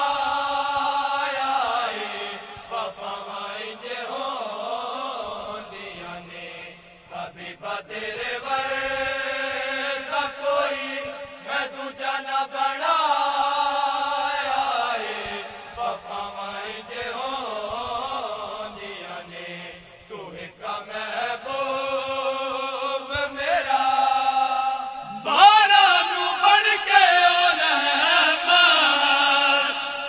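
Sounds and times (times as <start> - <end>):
men chanting together: 0.0 - 30.0.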